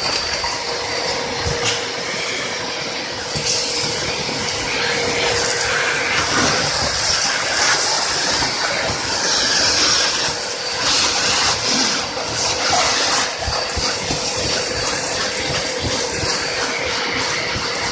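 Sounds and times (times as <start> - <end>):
vacuum cleaner running: 0.0 - 17.9.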